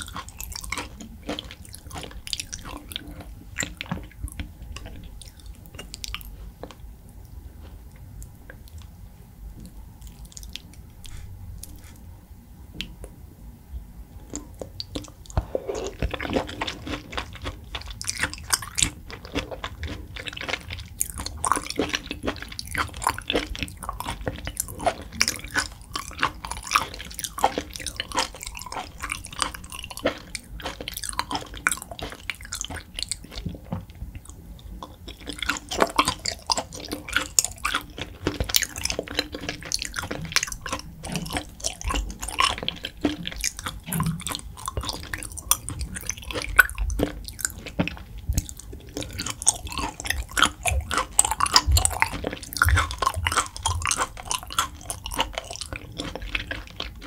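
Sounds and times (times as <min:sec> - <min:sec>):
wet chewing and mouth clicks: 0:00.0 - 0:09.0, 0:09.6 - 0:12.1, 0:14.3 - 0:57.0.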